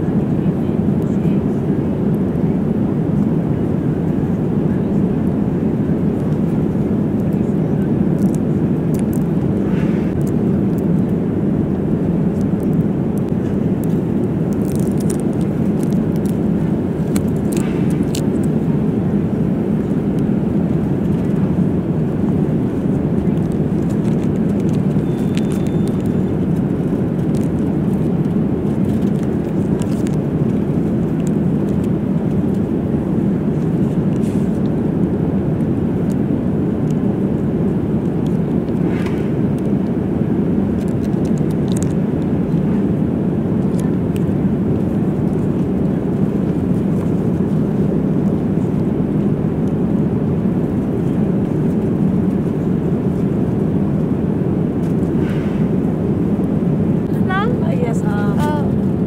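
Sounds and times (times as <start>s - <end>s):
airliner cabin noise: 0.0s - 59.0s.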